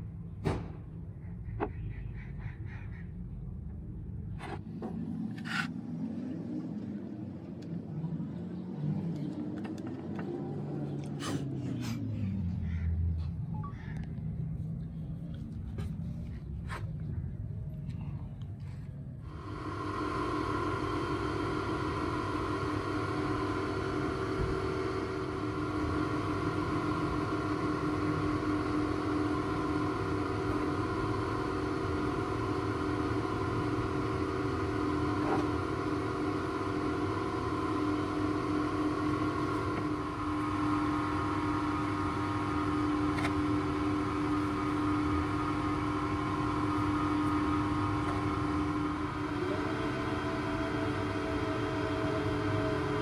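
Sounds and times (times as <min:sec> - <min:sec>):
motor droning hum: 0:01.0 - 0:53.0.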